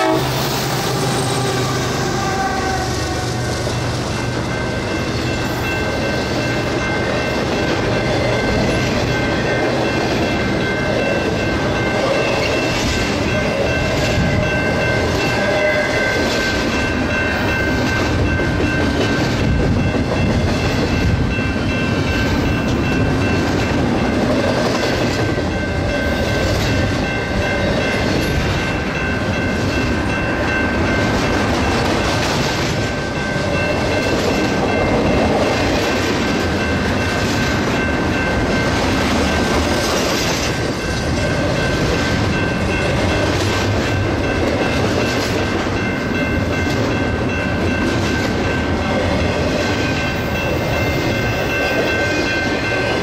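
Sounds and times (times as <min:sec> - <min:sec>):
steel wheels rumbling on rail: 0:00.0 - 0:53.0
wheels clickety-clack: 0:03.6 - 0:53.0.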